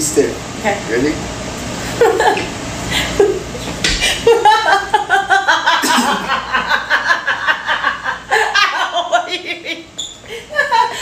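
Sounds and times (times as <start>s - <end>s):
woman laughing hard: 2.0s - 11.0s.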